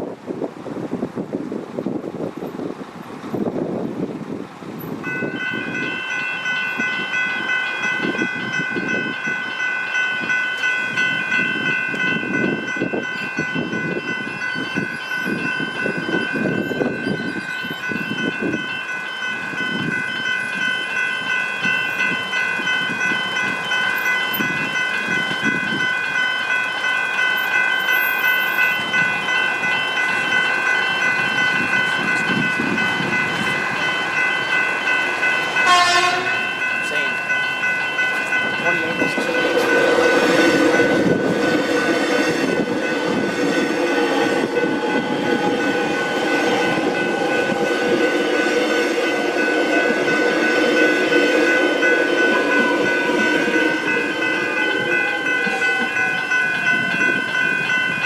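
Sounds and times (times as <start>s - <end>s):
level crossing warning bells: 4.2s - 58.0s.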